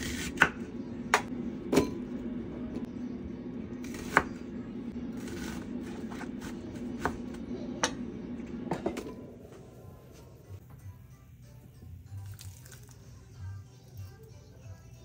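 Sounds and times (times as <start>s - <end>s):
appliance hum: 0.0s - 15.0s.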